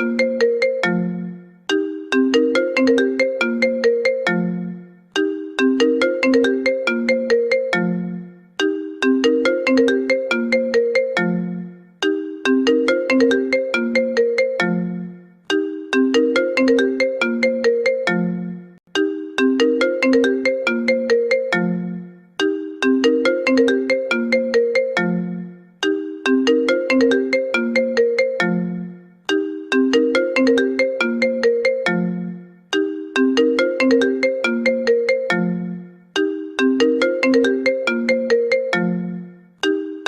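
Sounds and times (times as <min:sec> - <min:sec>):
phone ringtone: 0:00.0 - 0:40.0.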